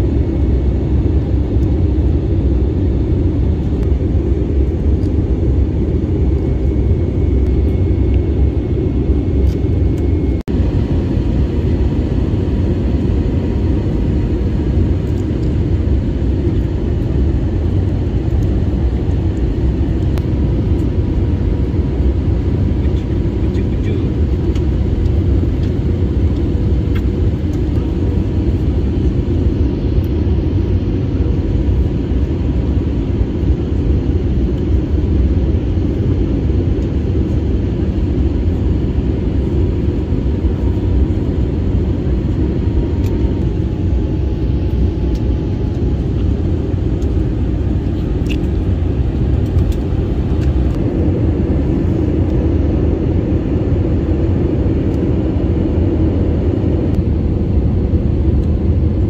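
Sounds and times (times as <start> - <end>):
airliner cabin rumble: 0.0 - 59.0
faint steady hum: 0.0 - 59.0.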